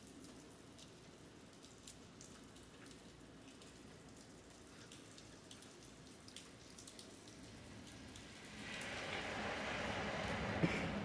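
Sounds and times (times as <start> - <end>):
light rain hissing on pavement: 0.0 - 11.0.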